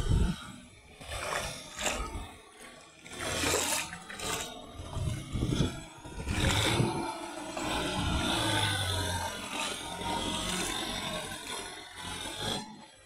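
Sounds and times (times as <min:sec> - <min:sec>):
tractor engine running: 0:00.0 - 0:13.0
wheels splashing through water: 0:00.9 - 0:13.0.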